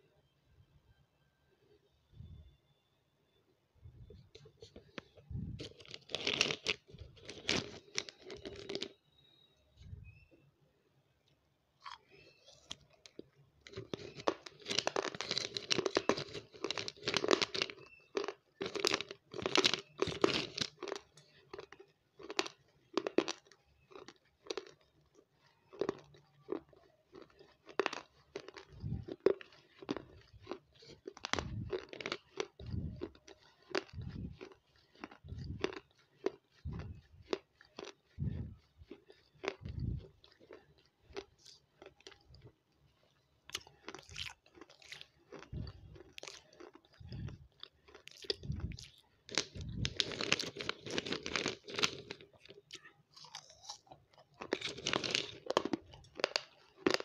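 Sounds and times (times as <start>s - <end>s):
crunching and chewing: 4.0s - 10.2s, 11.2s - 57.0s.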